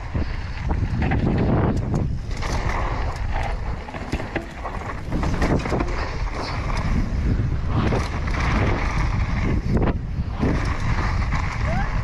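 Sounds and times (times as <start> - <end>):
bike rattling and knocking: 0.0 - 12.0
wind buffeting microphone: 0.0 - 12.0.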